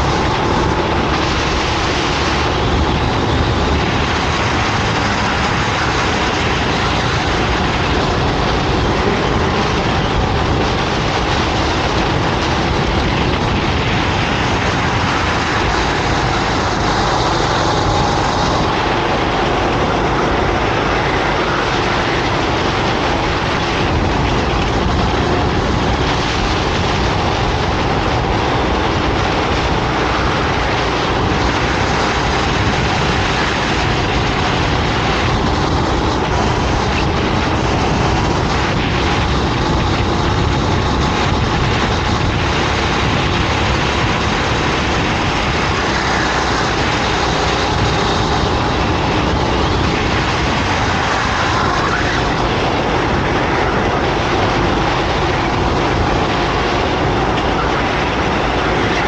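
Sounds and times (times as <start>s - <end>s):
kart engine running at speed: 0.0s - 59.0s.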